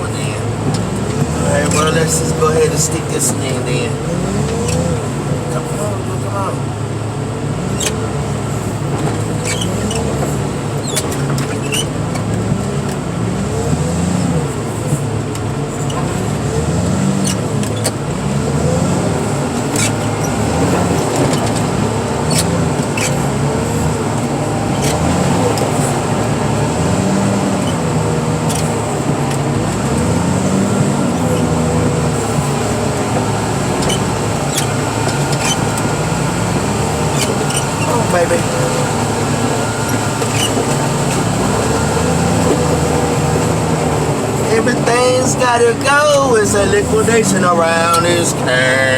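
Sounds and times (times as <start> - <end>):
heavy machinery engine working: 0.0 - 48.9.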